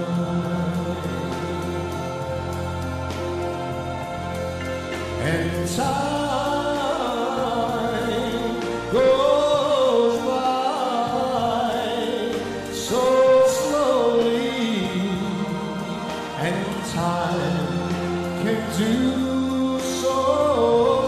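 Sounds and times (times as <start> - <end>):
instrumental accompaniment: 0.0 - 21.0
man singing into microphone: 0.0 - 21.0.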